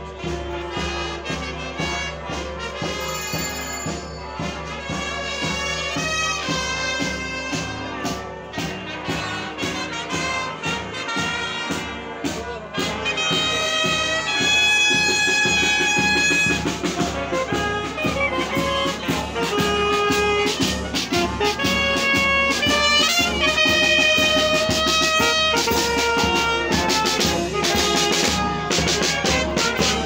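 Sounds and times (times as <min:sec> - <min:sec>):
wind band playing: 0:00.0 - 0:30.0.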